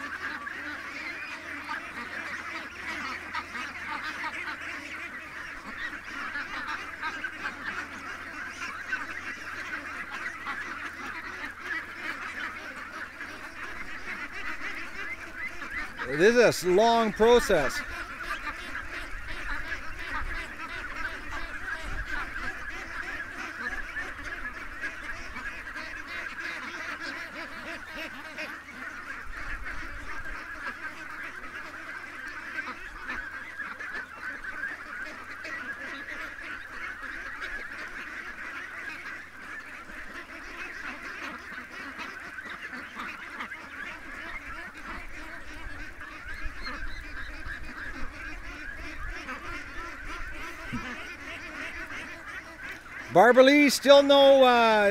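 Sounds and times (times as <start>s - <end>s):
flock of ducks quacking: 0.0s - 54.9s.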